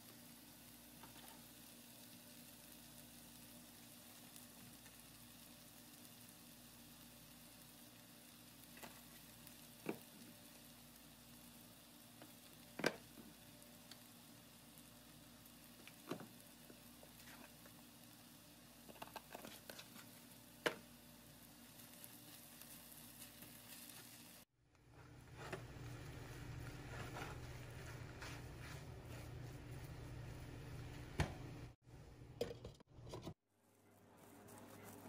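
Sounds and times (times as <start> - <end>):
food sizzling in a steel pan: 0.0 - 31.7.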